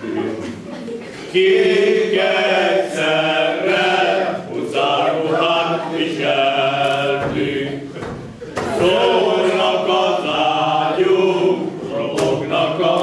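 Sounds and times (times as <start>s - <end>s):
men singing together: 1.3s - 13.0s.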